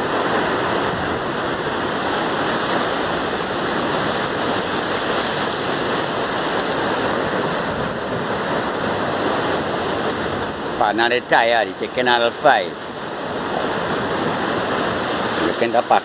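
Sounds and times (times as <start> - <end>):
sea surf on rocky shore: 0.0 - 16.0.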